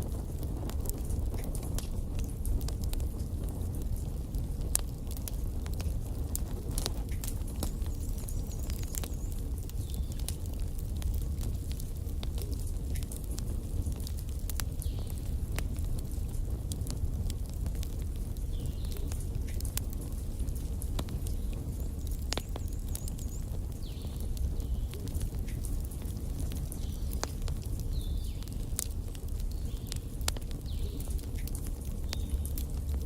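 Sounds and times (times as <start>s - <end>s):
burning logs crackling and popping: 0.0s - 33.0s
low rumble of flames: 0.0s - 33.0s.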